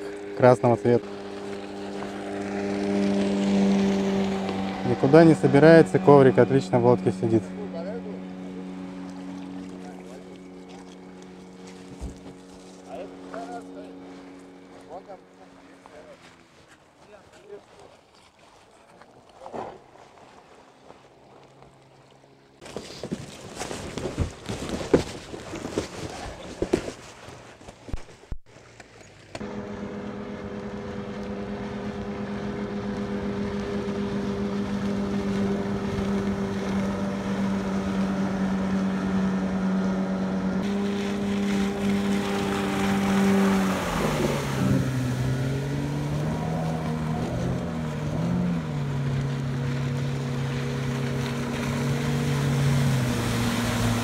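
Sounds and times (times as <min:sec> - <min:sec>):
outboard motor running: 0:00.0 - 0:26.9, 0:28.5 - 0:54.0.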